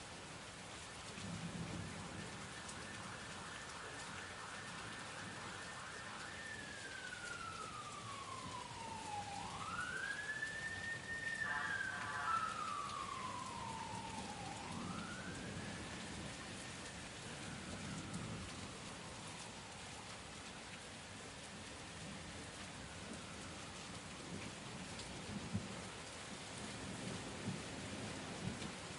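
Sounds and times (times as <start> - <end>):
steady rain: 0.0 - 28.9
emergency siren wailing: 0.6 - 27.6.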